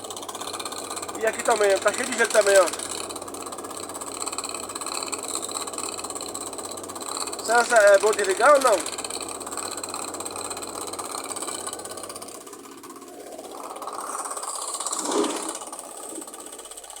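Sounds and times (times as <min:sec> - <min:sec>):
refrigeration unit rattling buzz: 0:00.0 - 0:17.0.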